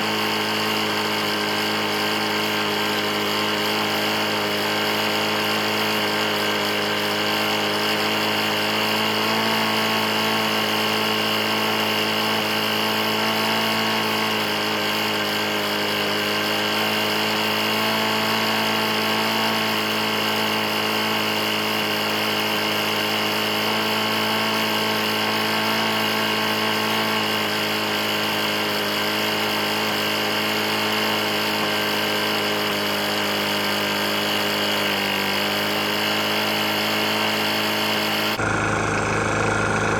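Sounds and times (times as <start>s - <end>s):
mower engine knocking: 0.0s - 39.9s.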